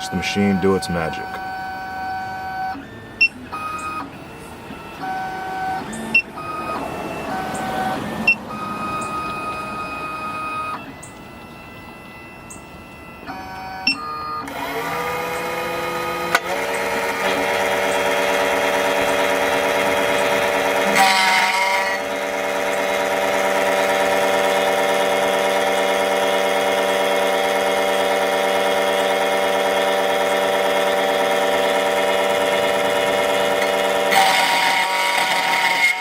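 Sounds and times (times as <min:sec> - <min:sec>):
machine motors whining: 0:00.0 - 0:36.0
spindle motor whine: 0:00.0 - 0:36.0.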